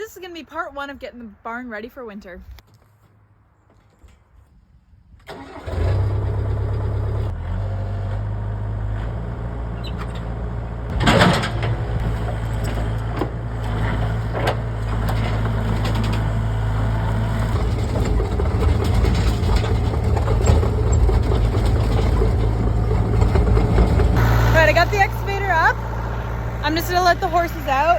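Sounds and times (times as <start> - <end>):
diesel engine running: 5.3 - 27.9.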